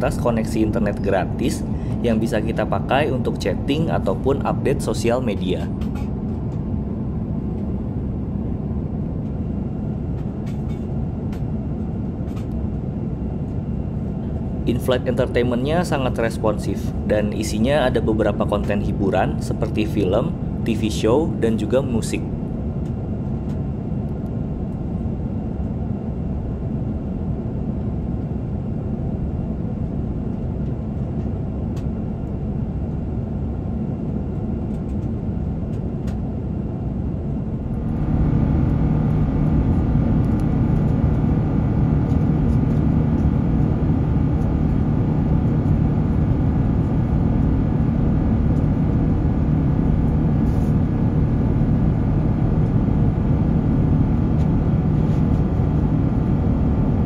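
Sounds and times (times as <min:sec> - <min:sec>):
airliner cabin rumble: 0:00.0 - 0:57.0
steady low hum: 0:00.0 - 0:57.0.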